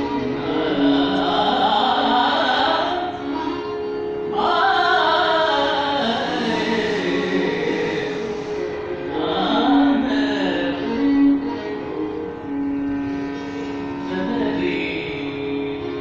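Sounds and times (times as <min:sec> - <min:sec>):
man singing classical melody: 0:00.0 - 0:03.4, 0:04.3 - 0:12.4, 0:14.0 - 0:16.0
bowed violin: 0:00.0 - 0:16.0
steady drone: 0:00.0 - 0:16.0.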